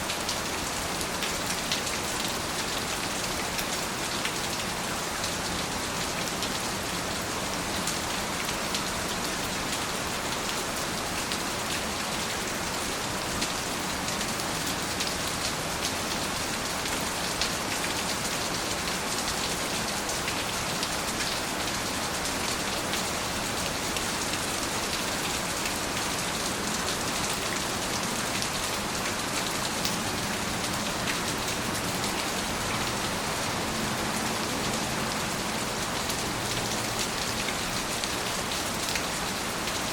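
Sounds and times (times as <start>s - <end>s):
rain drops pattering: 0.1s - 39.9s.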